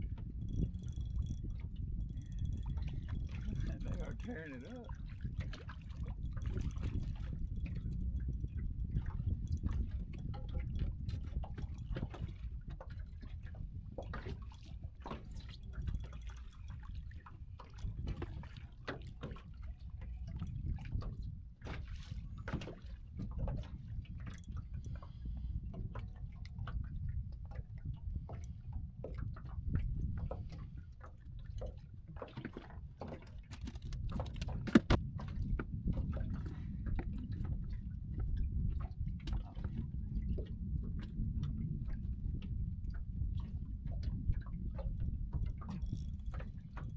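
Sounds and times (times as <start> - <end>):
water lapping against boat hull: 0.0 - 46.9.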